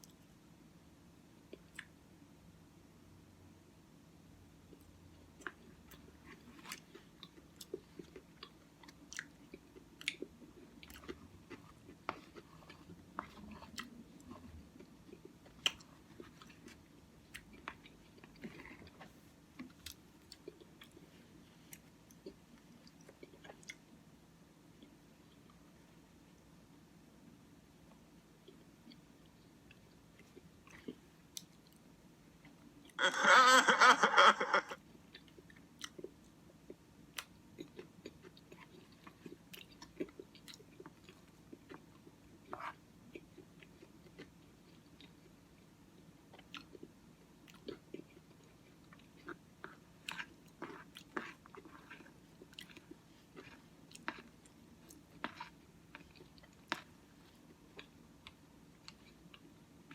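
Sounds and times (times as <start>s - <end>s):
chewing cereal: 4.7s - 24.0s, 28.4s - 33.1s, 34.9s - 59.9s.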